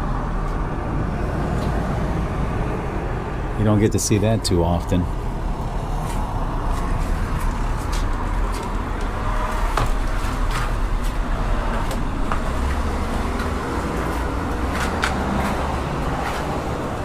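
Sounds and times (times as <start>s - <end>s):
van engine and road rumble: 0.0s - 17.0s.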